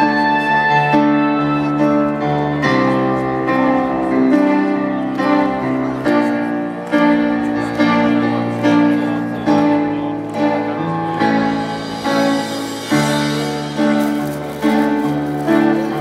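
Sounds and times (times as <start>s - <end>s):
held keyboard chords: 0.0s - 16.0s.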